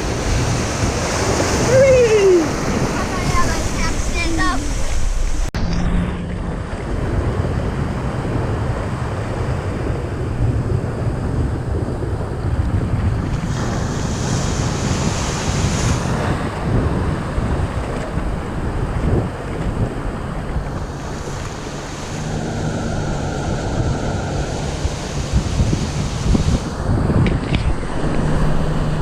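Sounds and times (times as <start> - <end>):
water and waves rushing: 0.0 - 29.0
wind buffeting microphone: 0.0 - 29.0.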